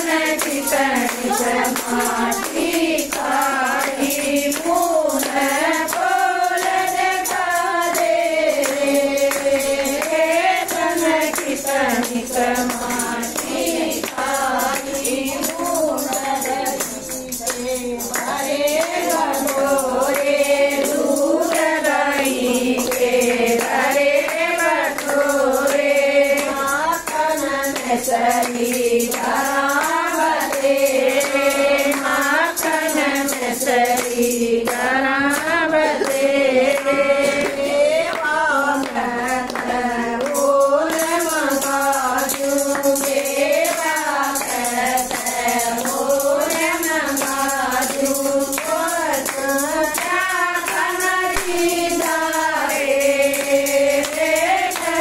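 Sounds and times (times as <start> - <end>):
hand clapping: 0.0 - 55.0
jingling hand percussion: 0.0 - 55.0
women singing in unison: 0.0 - 55.0.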